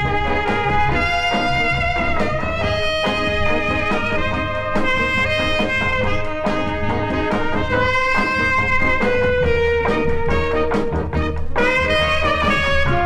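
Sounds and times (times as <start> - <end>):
pop record with long melody notes: 0.0 - 13.0
steady drum beat: 0.0 - 13.0.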